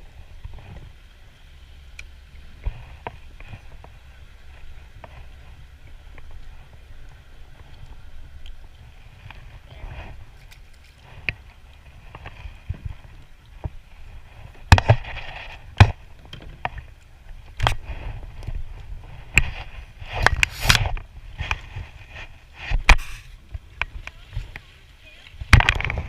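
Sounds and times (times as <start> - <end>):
water splashes: 0.0 - 26.0.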